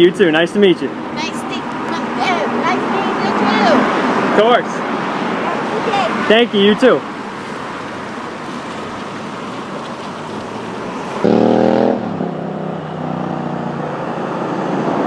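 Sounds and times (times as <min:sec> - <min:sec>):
road traffic rush: 0:00.0 - 0:15.0.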